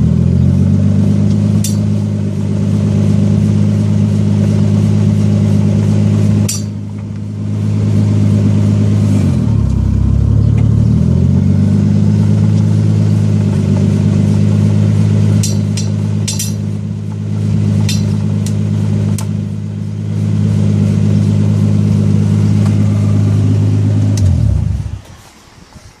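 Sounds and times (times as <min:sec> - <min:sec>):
car engine idling: 0:00.0 - 0:25.8.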